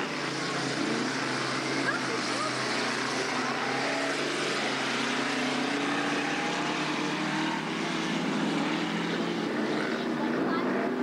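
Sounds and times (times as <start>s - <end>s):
distant race car engines: 0.0s - 11.0s.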